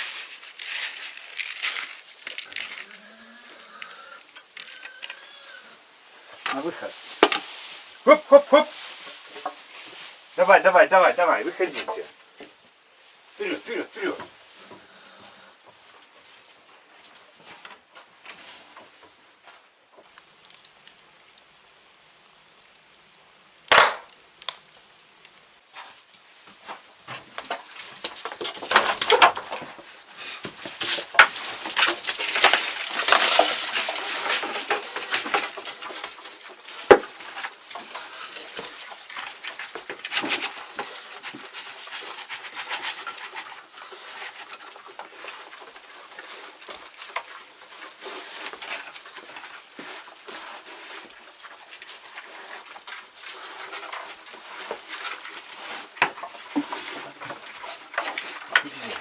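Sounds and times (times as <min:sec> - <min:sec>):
animals scuffling and pattering: 0:00.0 - 0:23.2, 0:24.1 - 0:59.0.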